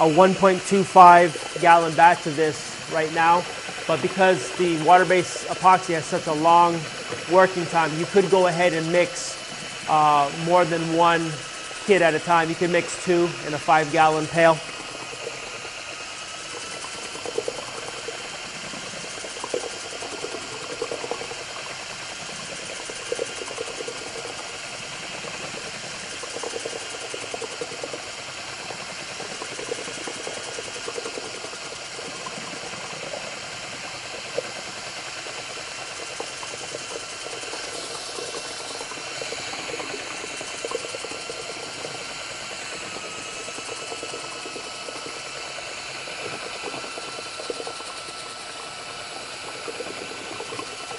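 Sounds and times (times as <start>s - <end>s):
electric drill motor whine: 0.0s - 50.9s.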